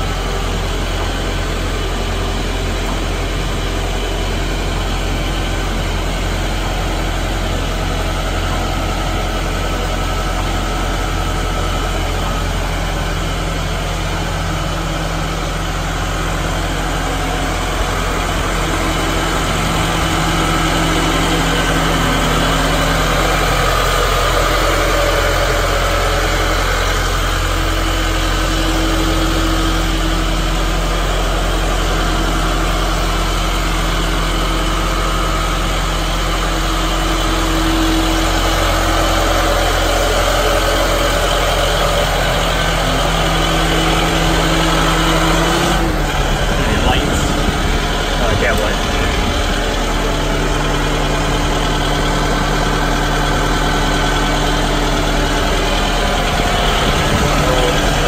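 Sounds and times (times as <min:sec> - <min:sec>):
train engine idling: 0:00.0 - 0:58.0.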